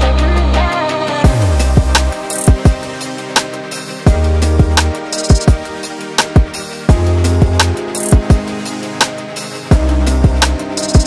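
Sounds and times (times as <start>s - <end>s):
beat-driven electronic music: 0.0s - 11.0s.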